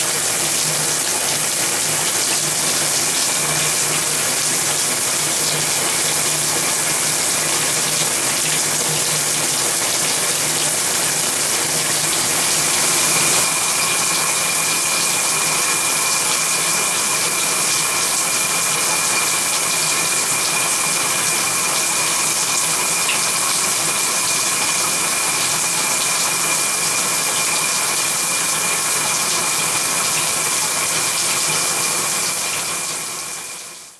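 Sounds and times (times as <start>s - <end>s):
shower water spray hissing: 0.0s - 33.5s.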